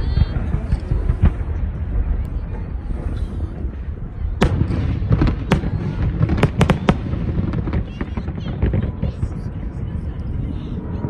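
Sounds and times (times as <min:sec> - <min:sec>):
fireworks bangs and cracks: 0:00.0 - 0:11.0
steady low rumble: 0:00.0 - 0:11.0.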